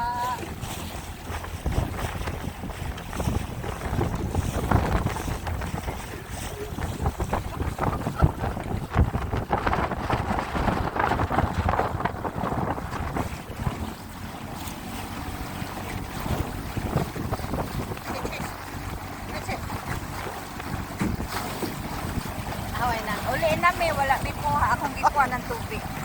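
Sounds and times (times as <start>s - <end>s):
rushing water rumble: 0.0s - 26.0s
wind buffeting microphone: 0.0s - 26.0s.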